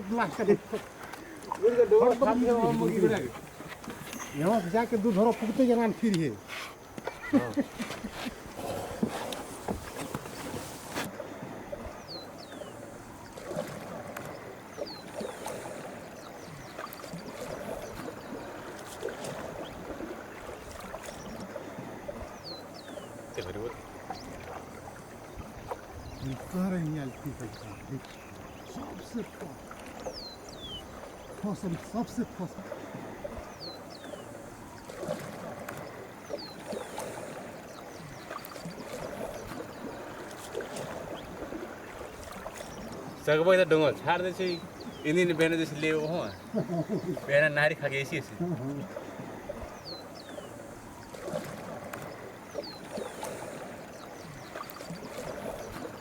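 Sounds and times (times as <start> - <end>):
paddle splashes: 0.0 - 56.0
water lapping: 0.0 - 56.0.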